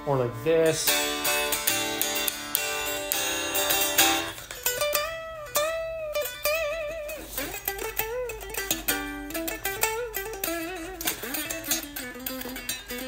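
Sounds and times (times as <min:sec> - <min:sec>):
electric guitar: 0:00.0 - 0:13.0.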